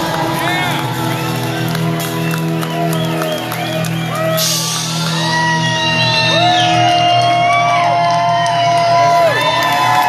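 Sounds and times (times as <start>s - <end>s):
crowd shouting and whooping: 0.0s - 10.0s
rock band playing live: 0.0s - 10.0s.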